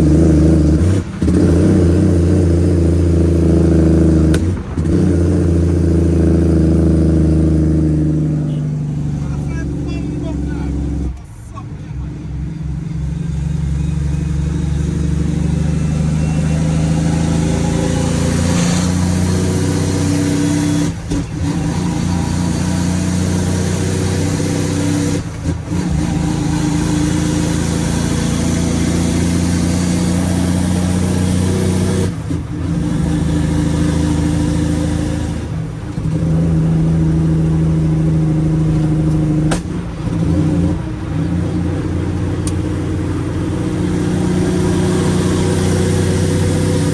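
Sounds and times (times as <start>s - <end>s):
diesel truck engine under load: 0.0s - 46.9s.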